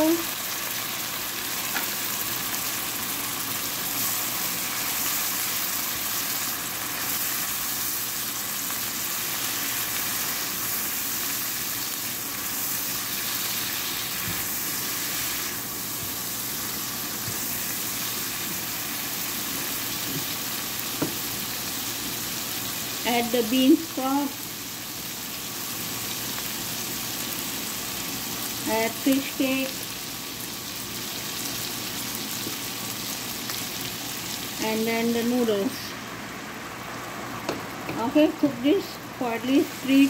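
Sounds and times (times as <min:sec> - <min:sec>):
sauce sizzling in a wok: 0:00.0 - 0:40.0.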